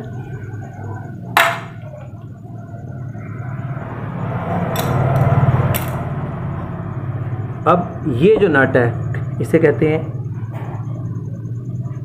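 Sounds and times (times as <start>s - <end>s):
vehicle engine passing by: 2.3s - 12.0s.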